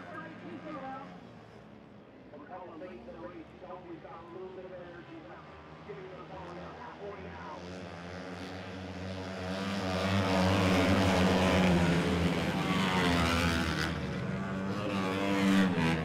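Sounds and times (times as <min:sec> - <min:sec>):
racing motorcycles at full throttle: 0:03.1 - 0:16.0.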